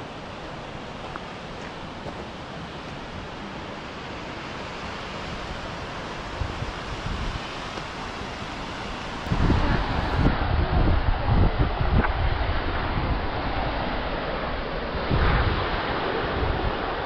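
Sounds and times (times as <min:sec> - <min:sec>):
creek rushing over cascades: 0:00.0 - 0:17.0
wind buffeting microphone: 0:00.0 - 0:17.0.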